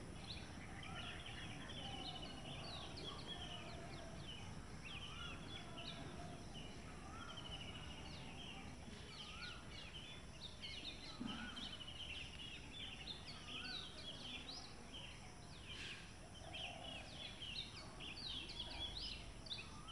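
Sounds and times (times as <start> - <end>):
birds chirping and trilling: 0.0 - 19.9.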